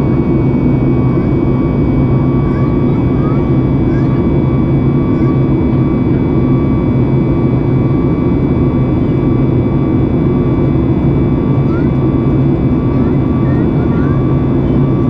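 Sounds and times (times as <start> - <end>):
jet engine low rumble: 0.0 - 15.0.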